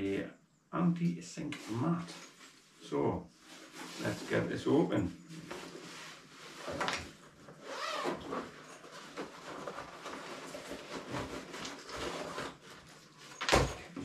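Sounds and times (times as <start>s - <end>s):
fabric rustling and scraping: 1.5s - 13.5s.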